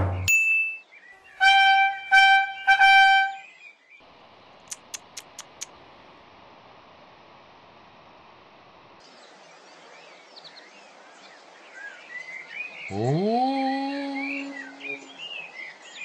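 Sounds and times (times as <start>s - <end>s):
outdoor ambience: 0.0s - 16.0s.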